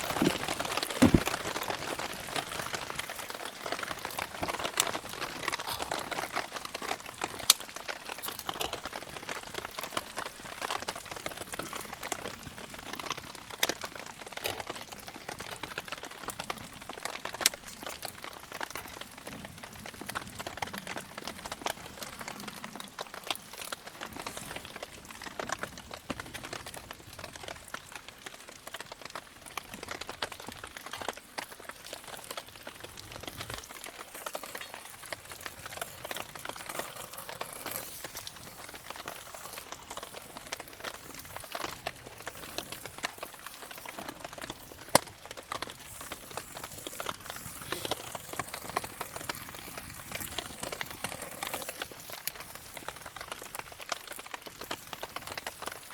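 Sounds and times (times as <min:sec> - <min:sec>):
campfire crackling: 0:00.0 - 0:55.9.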